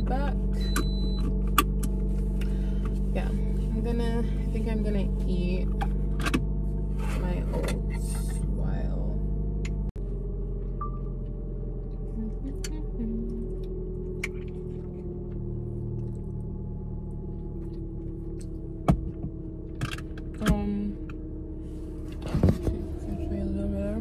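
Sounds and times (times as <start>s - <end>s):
low hum inside car: 0.0s - 24.0s.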